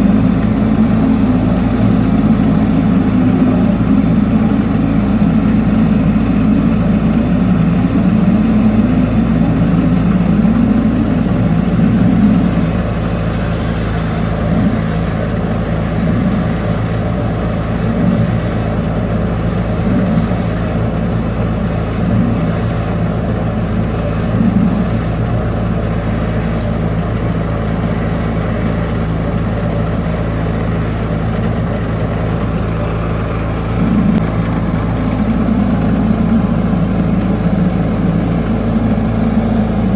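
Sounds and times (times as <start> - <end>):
engine droning under load: 0.0 - 39.9.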